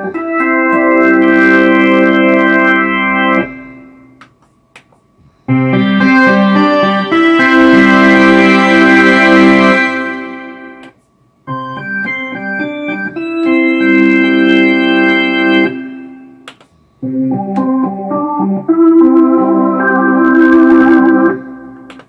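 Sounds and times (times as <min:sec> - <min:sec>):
synthesizer organ chords: 0:00.0 - 0:04.2, 0:05.5 - 0:10.9, 0:11.5 - 0:22.0.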